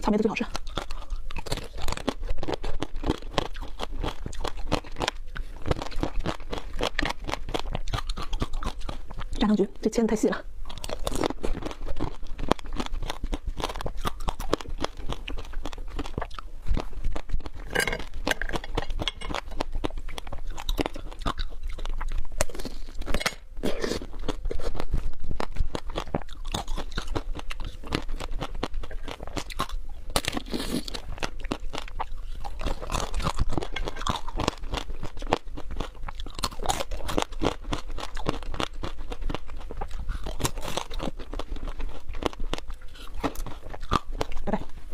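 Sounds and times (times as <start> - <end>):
wet chewing of fruit: 0.3 - 9.6, 10.6 - 44.9.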